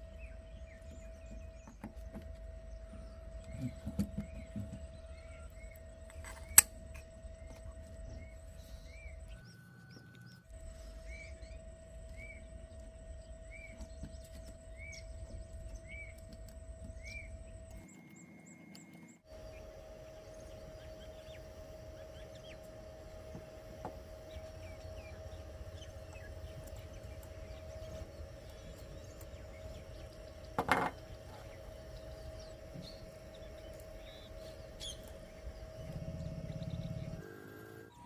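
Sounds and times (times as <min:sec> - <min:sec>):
faint chirp: 0:00.0 - 0:38.0
small electric motor whining: 0:00.0 - 0:38.0.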